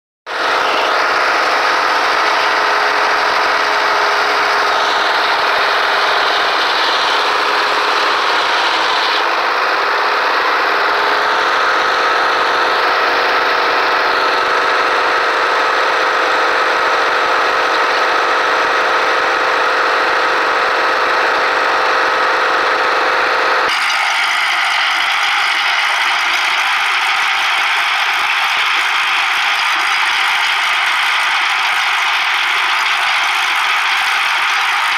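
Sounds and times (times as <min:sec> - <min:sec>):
sawmill engine and machinery din: 0:00.3 - 0:34.9.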